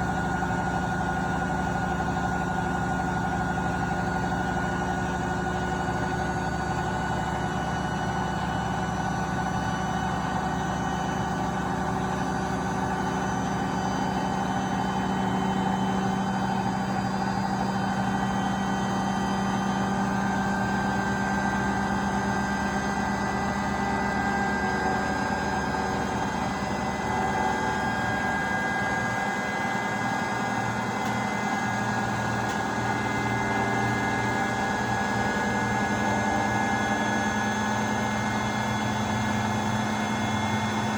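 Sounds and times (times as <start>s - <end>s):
washing machine spin whine: 0.0s - 40.9s.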